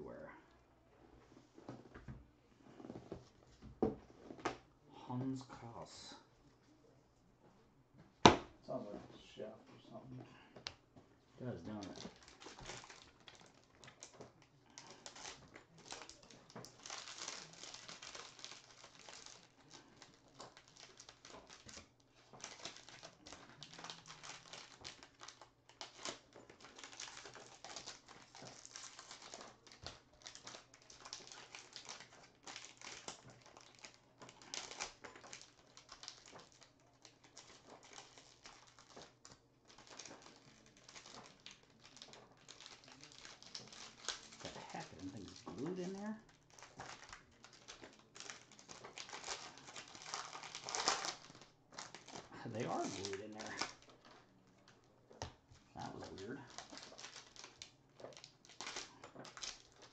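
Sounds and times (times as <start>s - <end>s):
foil wrappers crinkling: 11.4s - 59.9s.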